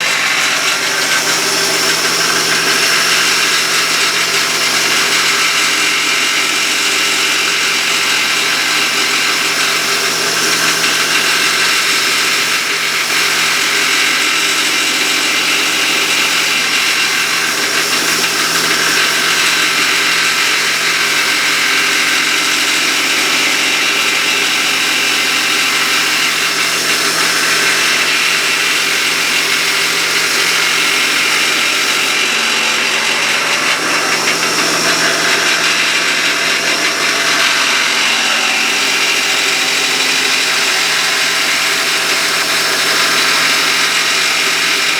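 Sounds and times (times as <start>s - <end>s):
machine humming and hissing: 0.0s - 44.9s.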